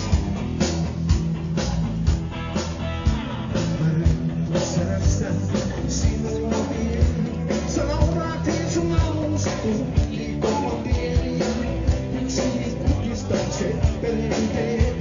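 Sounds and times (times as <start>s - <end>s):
drum kit steady beat: 0.0s - 15.0s
live rock band playing: 0.0s - 15.0s.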